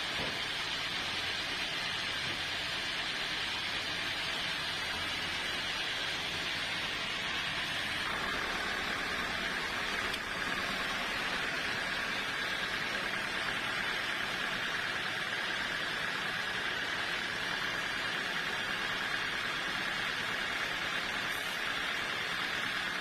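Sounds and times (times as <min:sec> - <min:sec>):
sawmill saw hissing: 0:00.0 - 0:23.0.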